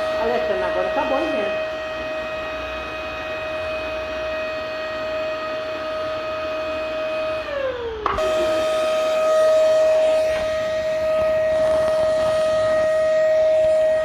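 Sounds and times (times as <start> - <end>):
vacuum cleaner motor whining: 0.0 - 14.0.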